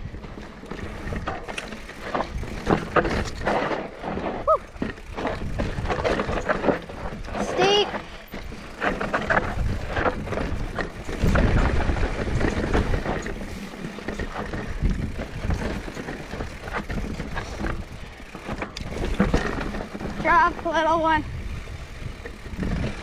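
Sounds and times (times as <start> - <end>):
bike rattling and clicking: 0.0 - 23.0
bike tyres on dirt and rock: 0.0 - 23.0
wind buffeting microphone: 0.0 - 23.0.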